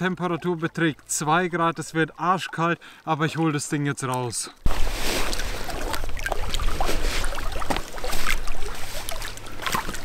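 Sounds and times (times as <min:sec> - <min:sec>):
waves lapping against rocks: 0:01.8 - 0:10.0.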